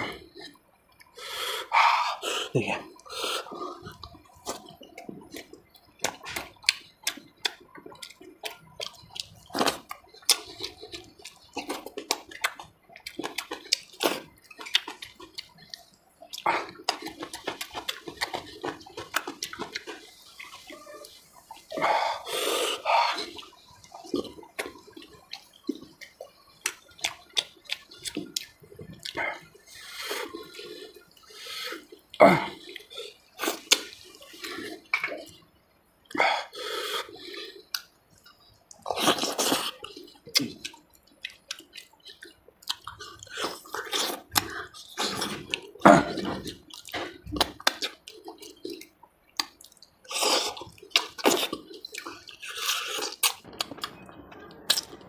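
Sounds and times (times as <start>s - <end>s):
wet chewing and lip-smacking: 2.9s - 54.0s.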